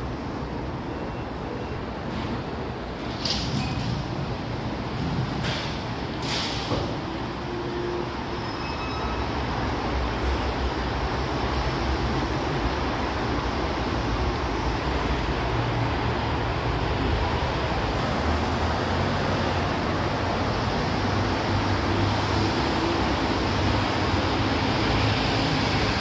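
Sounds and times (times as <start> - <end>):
road traffic rumble and hiss: 0.0 - 26.0.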